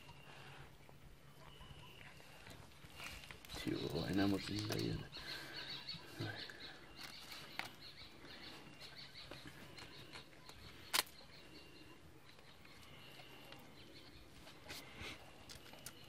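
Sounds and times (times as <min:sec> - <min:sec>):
faint high-pitched chirping: 0:00.0 - 0:16.0.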